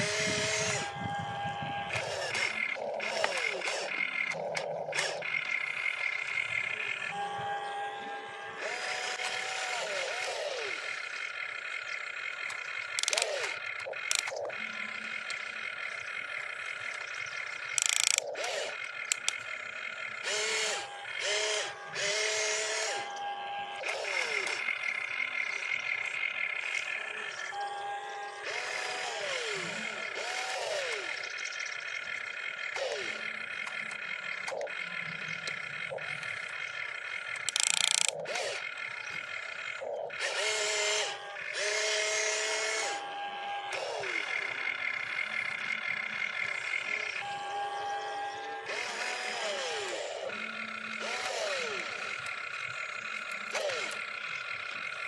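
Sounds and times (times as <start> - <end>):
small electric motors whining: 0.0 - 55.0.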